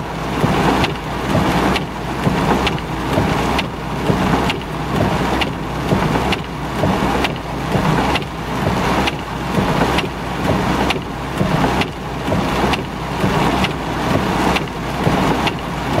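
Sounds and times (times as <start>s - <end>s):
low engine hum: 0.0s - 16.0s
rain on a car: 0.0s - 16.0s
windshield wipers swishing: 0.0s - 16.0s.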